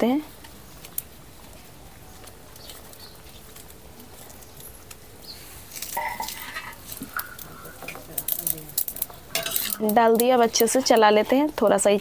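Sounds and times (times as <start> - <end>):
gravy simmering: 0.0 - 12.0.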